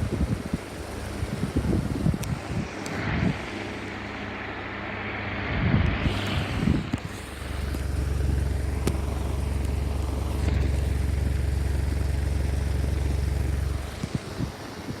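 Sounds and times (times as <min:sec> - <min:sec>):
fan air buffeting microphone: 0:00.0 - 0:15.0.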